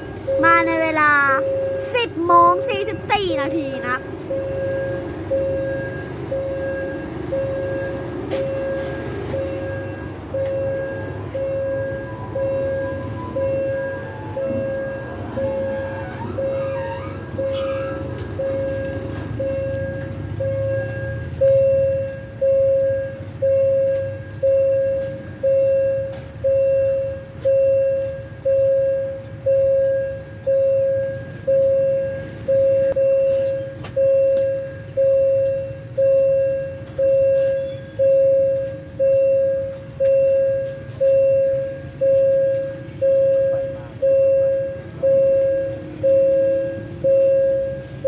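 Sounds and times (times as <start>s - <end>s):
railway warning bell ringing: 0.0s - 48.0s.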